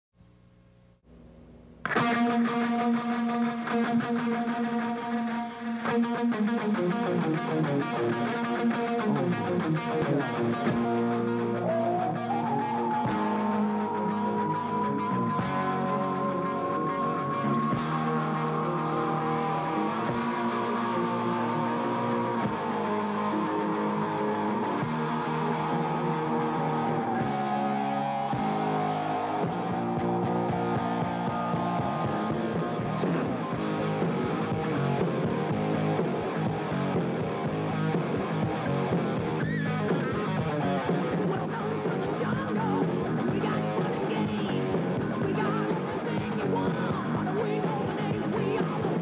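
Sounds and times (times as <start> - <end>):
rock guitar music: 1.8 - 49.0.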